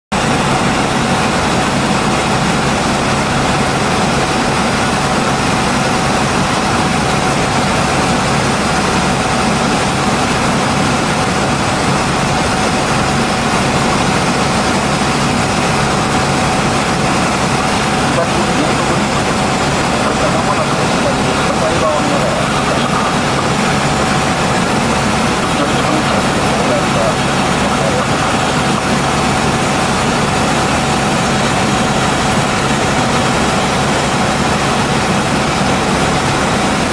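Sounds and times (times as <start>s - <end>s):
constant whine: 0.1s - 36.9s
helicopter engine and rotor drone: 0.1s - 36.9s.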